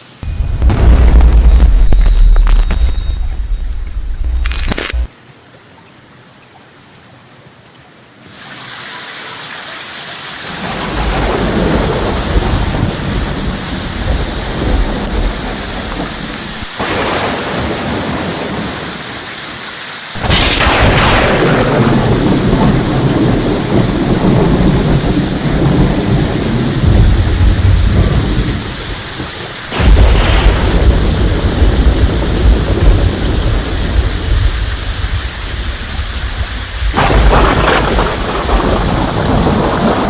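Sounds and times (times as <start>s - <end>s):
heavy rain hiss: 0.0s - 5.1s, 8.2s - 40.0s
rolling thunder: 0.2s - 4.4s, 10.6s - 18.8s, 20.2s - 40.0s.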